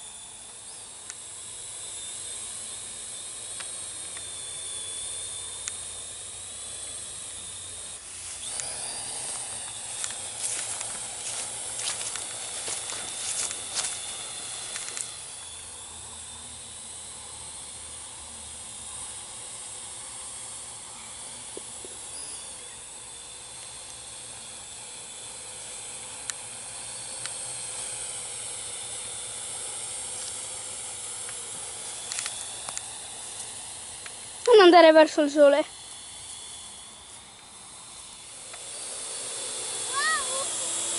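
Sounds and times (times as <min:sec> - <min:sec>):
drone rotors whirring: 0:00.0 - 0:40.9
faint high whine: 0:00.0 - 0:40.9.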